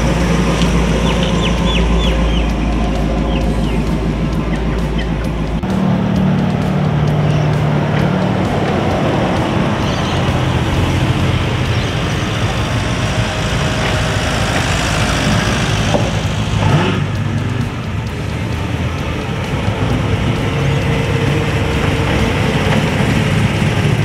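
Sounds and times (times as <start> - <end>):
car engines running: 0.0 - 24.0
traffic noise: 0.0 - 24.0.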